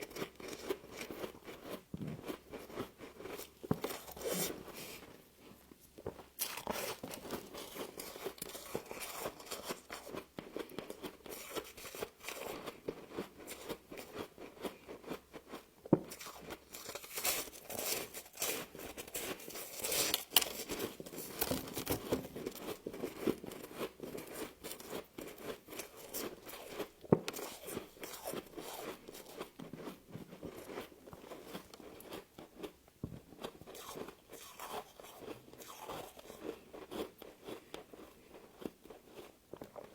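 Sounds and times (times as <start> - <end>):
person chewing crunchy frost: 0.0 - 5.1, 6.2 - 39.9.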